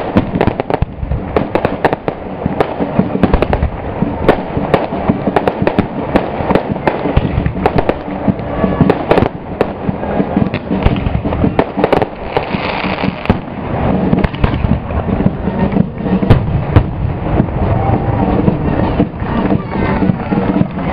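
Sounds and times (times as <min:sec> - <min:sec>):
continuous rumble: 0:00.0 - 0:20.9
firecrackers cracking and popping: 0:00.0 - 0:20.9.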